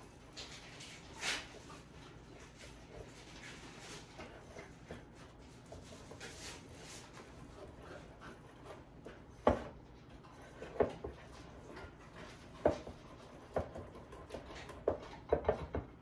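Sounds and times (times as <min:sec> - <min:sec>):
whisk beating egg mixture: 0:01.8 - 0:15.9.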